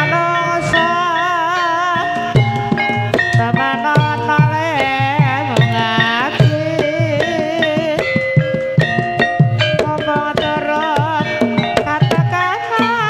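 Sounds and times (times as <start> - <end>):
hand drum strokes: 0.0 - 13.0
struck metallophone notes: 0.0 - 13.0
wavering vibrato melody: 0.0 - 13.0.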